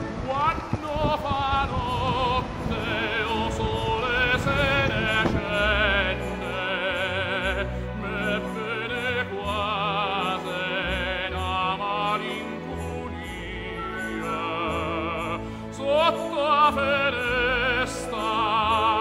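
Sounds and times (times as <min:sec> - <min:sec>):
operatic voice singing: 0:00.0 - 0:19.0
orchestral accompaniment: 0:00.0 - 0:19.0.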